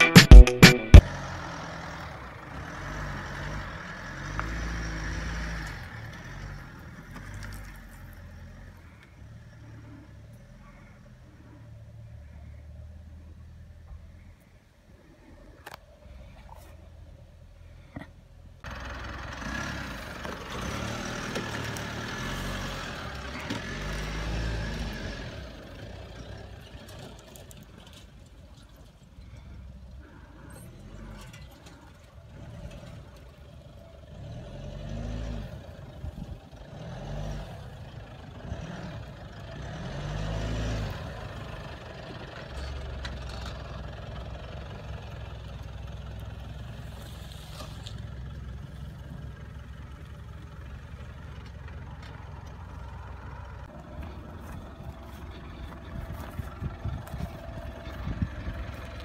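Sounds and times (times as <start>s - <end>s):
suv engine revving: 0.9s - 10.9s, 18.6s - 26.9s, 30.0s - 59.0s.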